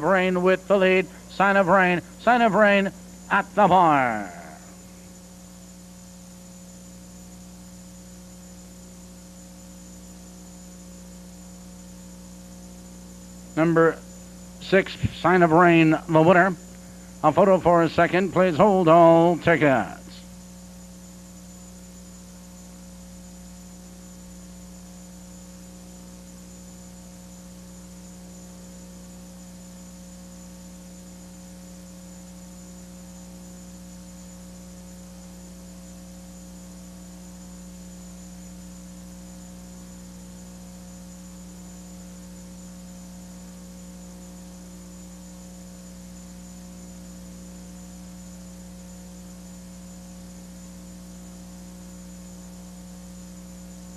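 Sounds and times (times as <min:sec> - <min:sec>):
electrical mains hum: 0:00.0 - 0:53.9.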